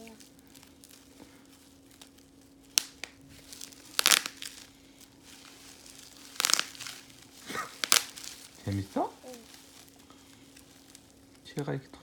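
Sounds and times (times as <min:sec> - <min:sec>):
bubble wrap crinkling: 0:00.0 - 0:12.0
bubble wrap popping: 0:00.0 - 0:12.0.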